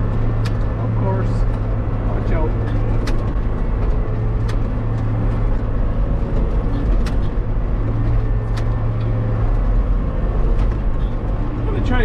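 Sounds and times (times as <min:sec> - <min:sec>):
tractor engine running: 0:00.0 - 0:12.0
sharp clicks and rattles: 0:00.2 - 0:12.0.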